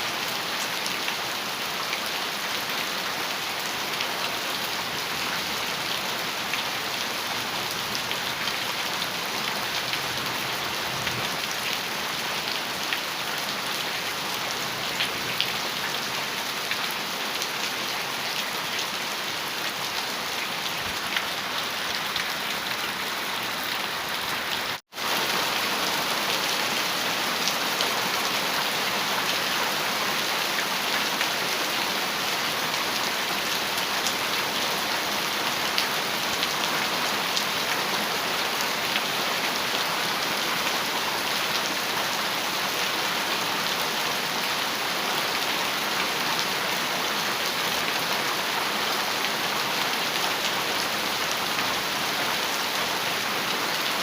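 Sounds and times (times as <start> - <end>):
heavy rain on metal roof: 0.0 - 54.0.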